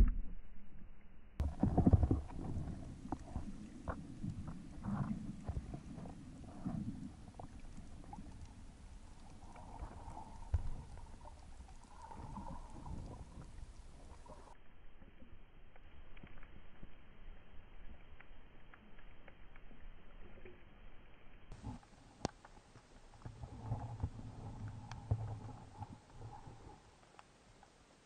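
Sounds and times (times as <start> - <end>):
low rumbling underwater movement: 0.0 - 27.7
underwater clicks and crackles: 1.4 - 28.0.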